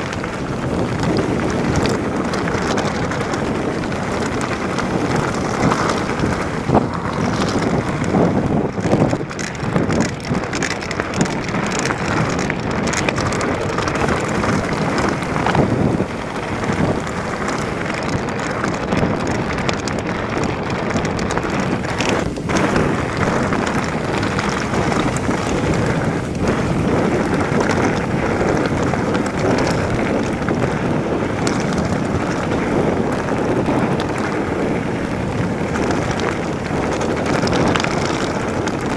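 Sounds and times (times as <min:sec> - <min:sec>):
bike tyres rattling on gravel: 0:00.0 - 0:38.9
wind rushing over microphone: 0:00.0 - 0:38.9.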